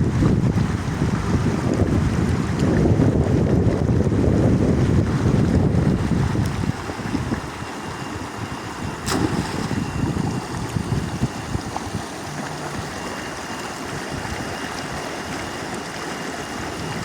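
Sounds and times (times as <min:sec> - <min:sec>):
moving water: 0:00.0 - 0:17.0
wind buffeting microphone: 0:00.0 - 0:17.0.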